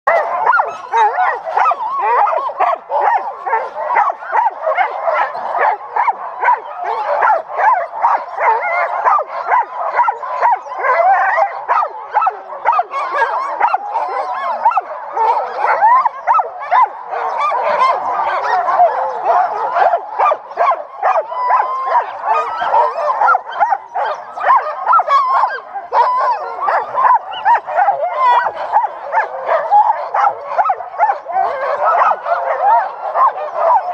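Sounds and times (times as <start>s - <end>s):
sled dogs barking and howling: 0.0s - 33.9s.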